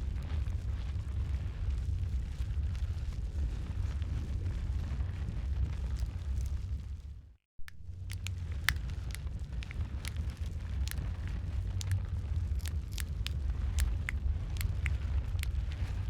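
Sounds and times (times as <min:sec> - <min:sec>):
fire crackles and pops: 0:00.0 - 0:16.0
fire flames rumbling: 0:00.0 - 0:16.0.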